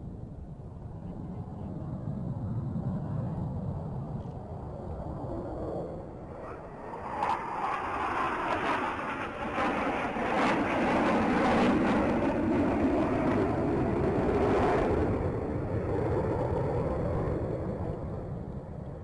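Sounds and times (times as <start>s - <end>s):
jets flying past: 1.3s - 18.4s.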